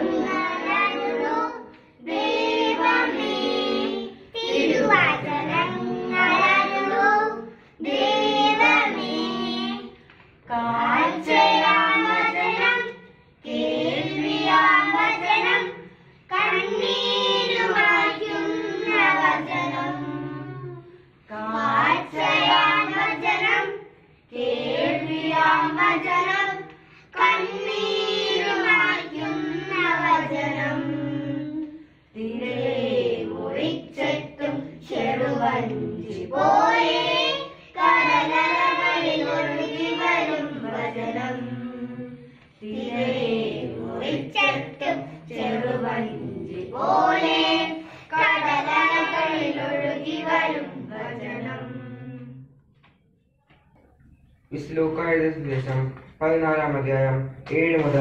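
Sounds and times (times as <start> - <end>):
children and women singing a hymn: 0.0 - 53.0.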